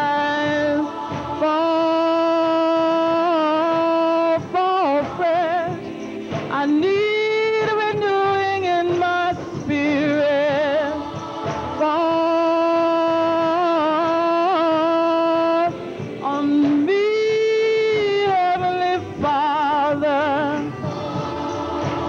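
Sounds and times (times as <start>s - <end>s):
women's choir singing: 0.0s - 22.0s.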